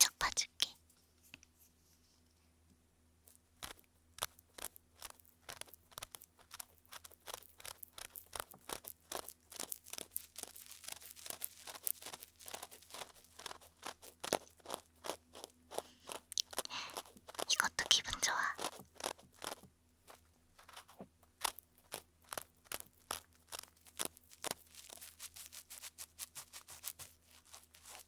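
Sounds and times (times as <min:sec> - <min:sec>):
cotton swab scratching microphone: 0:03.6 - 0:28.0.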